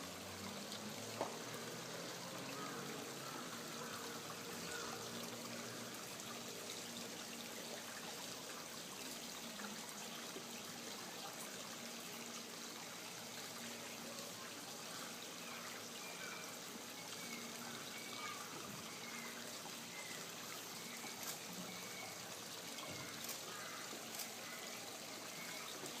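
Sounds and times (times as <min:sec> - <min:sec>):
trickling running water: 0:00.0 - 0:26.0.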